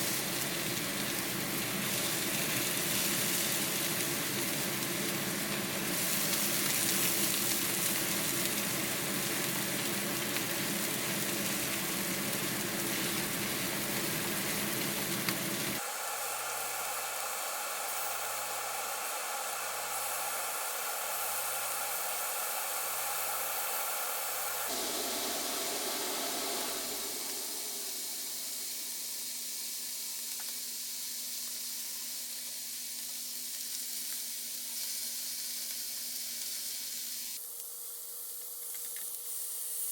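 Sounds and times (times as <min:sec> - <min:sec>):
meat sizzling on a grill: 0:00.0 - 0:39.9.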